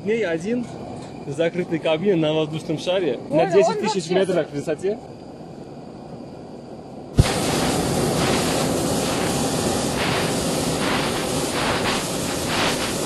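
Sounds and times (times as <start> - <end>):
propane burner rushing hiss: 0.0 - 13.0.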